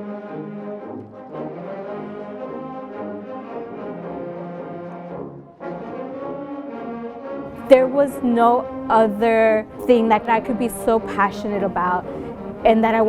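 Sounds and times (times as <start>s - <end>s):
brass band playing held notes: 0.0s - 13.0s.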